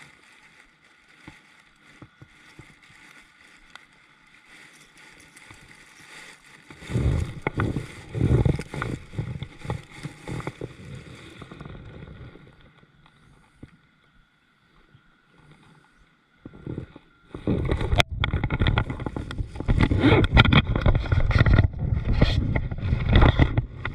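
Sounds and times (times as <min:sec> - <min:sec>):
faint water noise: 0:00.0 - 0:23.9.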